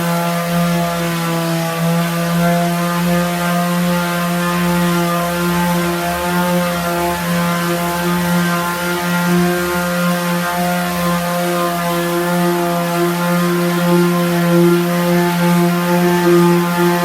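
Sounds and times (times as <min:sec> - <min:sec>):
electric sander running: 0:00.0 - 0:17.0.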